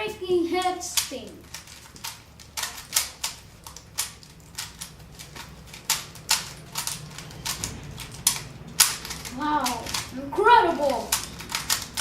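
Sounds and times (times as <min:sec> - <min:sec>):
puzzle cube plastic clicking: 0:00.6 - 0:12.0.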